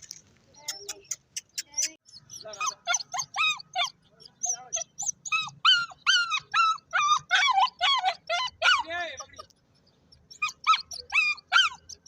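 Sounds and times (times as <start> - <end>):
dog whimpering and yipping: 0.6 - 9.5, 10.3 - 12.0.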